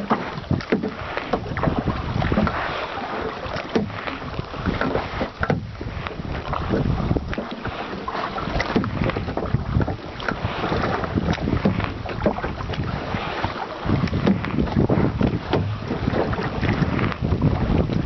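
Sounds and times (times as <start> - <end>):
paddles splashing water: 0.0 - 18.0
wind buffeting microphone: 0.0 - 18.0.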